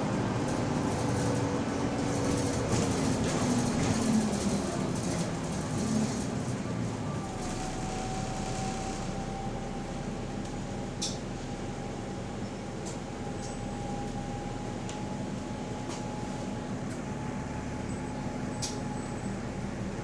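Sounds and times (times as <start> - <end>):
bus drivetrain and road rumble: 0.0 - 20.0.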